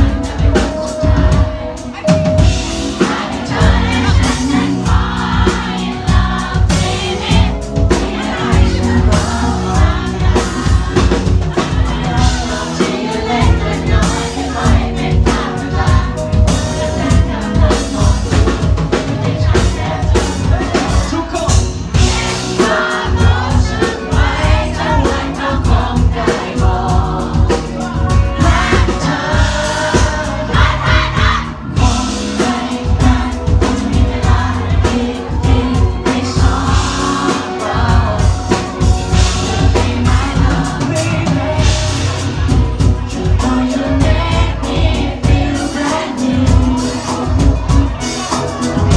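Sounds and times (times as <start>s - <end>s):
man singing: 0.0s - 30.8s, 31.7s - 48.9s
crowd singing along: 0.0s - 48.9s
drum beat: 0.0s - 48.9s
live band playing pop song: 0.0s - 48.9s.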